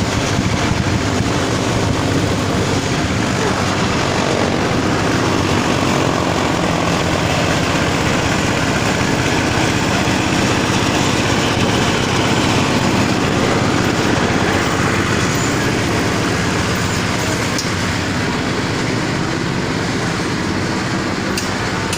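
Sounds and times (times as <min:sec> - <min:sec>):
machine running loudly: 0:00.0 - 0:21.9.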